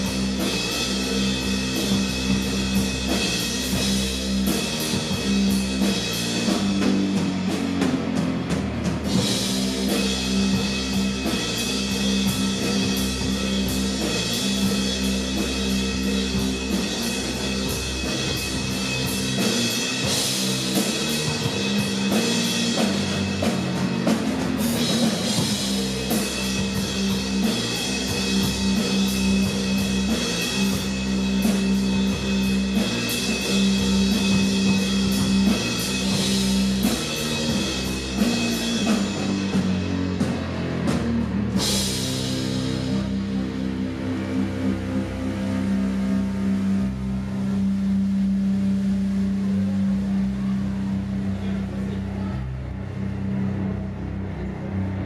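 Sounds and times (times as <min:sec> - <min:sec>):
distorted fuzz guitars and bass: 0:00.0 - 0:55.0
drum kit beat with cymbals: 0:00.0 - 0:55.0.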